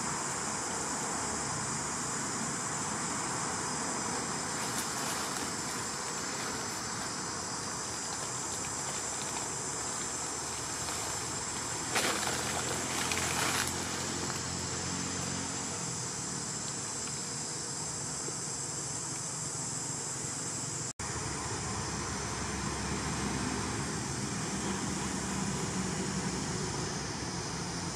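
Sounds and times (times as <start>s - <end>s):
background hiss: 0.0s - 27.9s
high insect drone: 0.0s - 27.9s.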